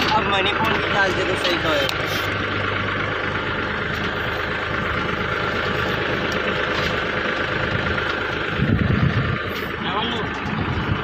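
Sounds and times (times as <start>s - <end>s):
machine engine running: 0.0s - 11.0s.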